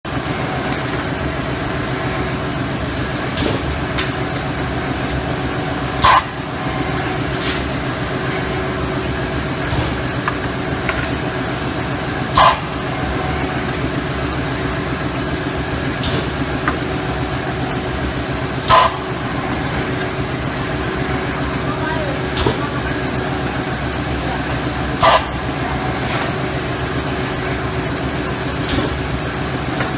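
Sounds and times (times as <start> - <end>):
ice machine humming: 0.1 - 29.9.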